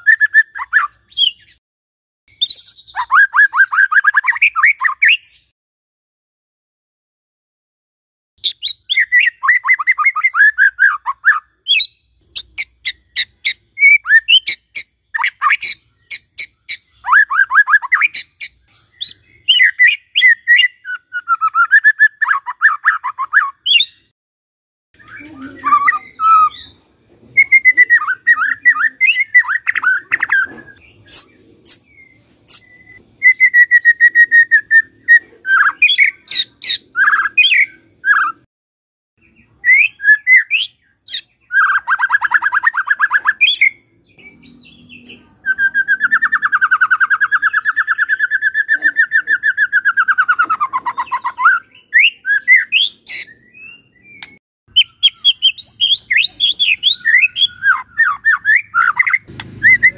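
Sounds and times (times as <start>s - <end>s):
bird singing whistled phrases: 0.0s - 1.6s, 2.3s - 5.5s, 8.4s - 24.1s, 25.0s - 26.8s, 27.4s - 38.4s, 39.2s - 59.9s.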